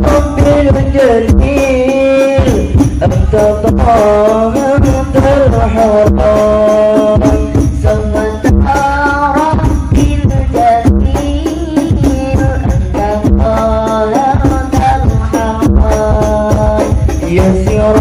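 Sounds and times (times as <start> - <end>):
devotional group singing: 0.0 - 18.0
frame drums: 0.0 - 18.0.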